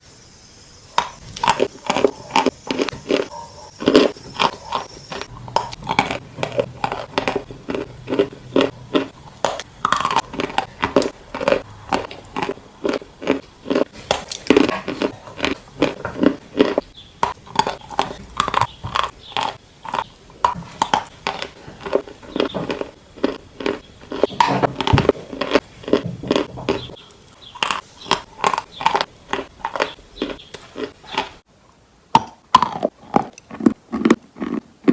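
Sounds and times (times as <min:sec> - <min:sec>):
chewing crunchy chicken: 0:01.0 - 0:31.5, 0:32.5 - 0:34.9.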